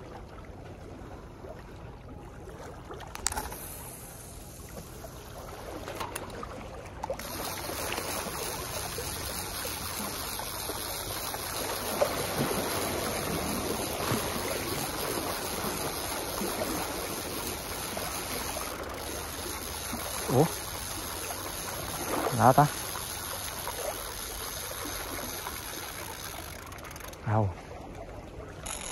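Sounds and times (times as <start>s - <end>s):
seawater sloshing against embankment: 2.3s - 28.9s.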